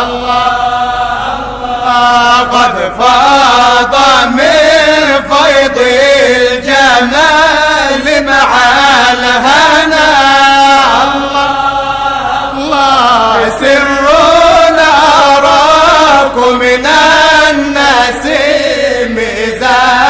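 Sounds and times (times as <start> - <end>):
person chanting devotional song: 0.0 - 20.0.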